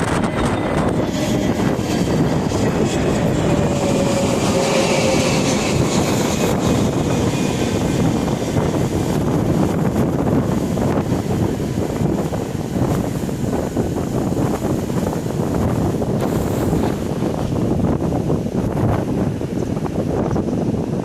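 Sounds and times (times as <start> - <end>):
jet engines whining: 0.0 - 20.0
wind buffeting microphone: 0.0 - 21.0.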